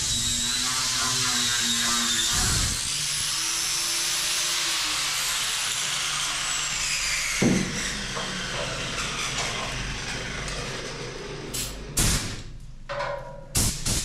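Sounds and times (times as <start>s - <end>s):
power tool spinning down: 0.0s - 12.4s.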